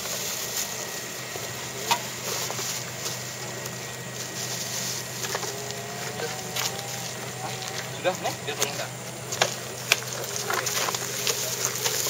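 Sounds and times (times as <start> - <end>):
low background hum: 0.0 - 12.0
bags and gear being handled: 0.1 - 12.0.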